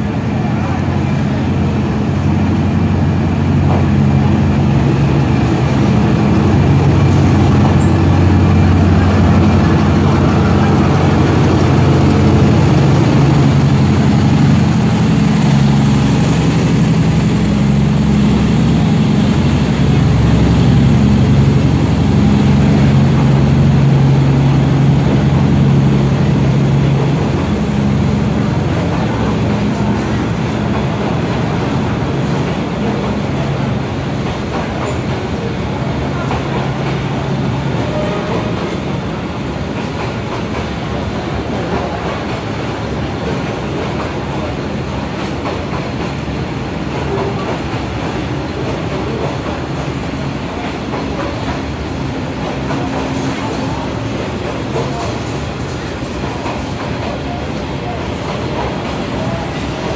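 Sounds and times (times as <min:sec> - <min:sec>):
train coaches rolling past: 0:00.0 - 0:59.9.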